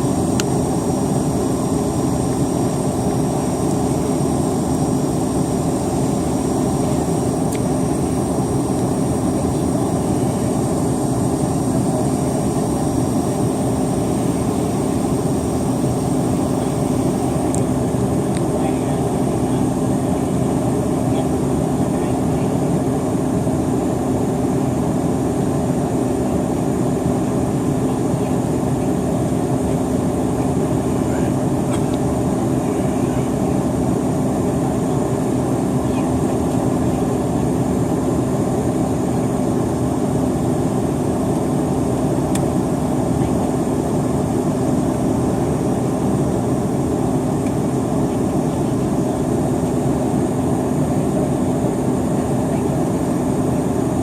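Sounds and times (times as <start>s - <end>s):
aircraft cabin engine noise: 0.0s - 54.0s.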